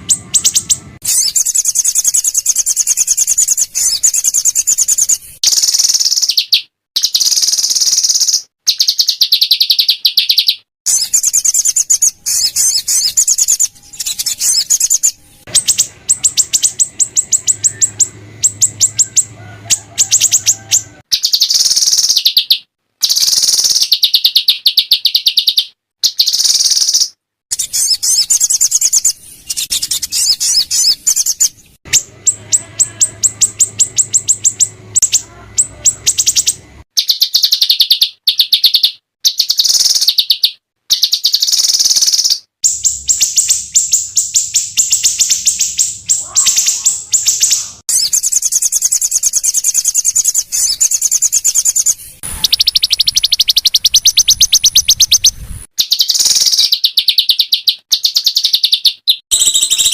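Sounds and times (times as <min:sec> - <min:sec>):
songbirds singing harsh trills: 0:00.0 - 0:59.9.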